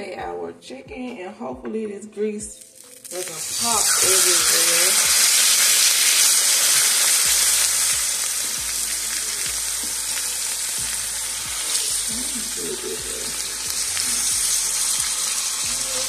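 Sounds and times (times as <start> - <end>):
chicken sizzling in oil: 2.6 - 16.0.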